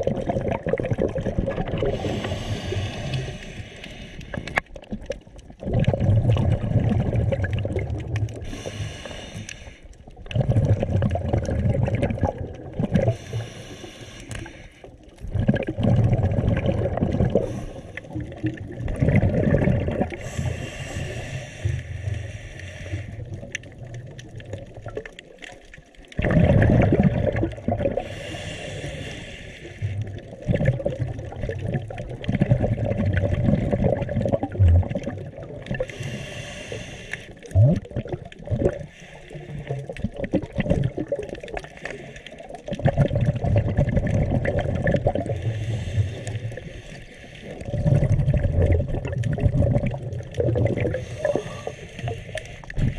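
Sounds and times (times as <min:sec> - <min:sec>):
exhaled bubbles gurgling underwater: 0:00.0 - 0:52.9.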